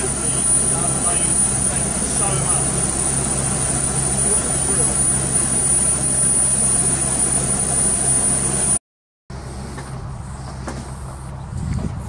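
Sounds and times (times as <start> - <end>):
helicopter turbine whine and drone: 0.0 - 12.0.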